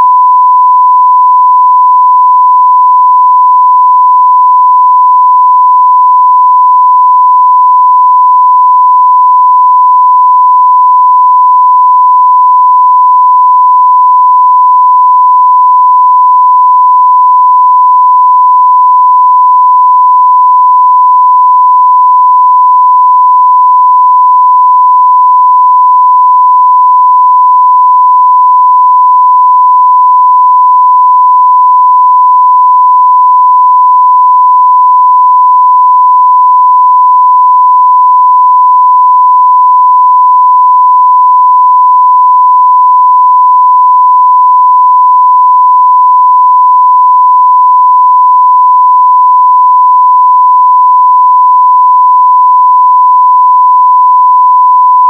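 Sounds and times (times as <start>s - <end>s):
sine wave test tone: 0.0s - 55.0s.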